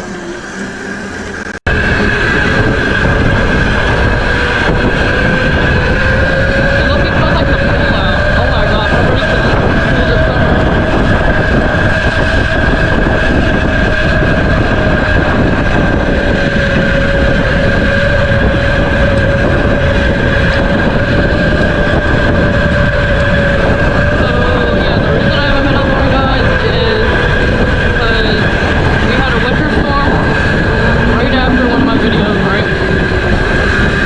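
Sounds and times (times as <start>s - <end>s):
mini bike engine running: 0.0s - 34.0s.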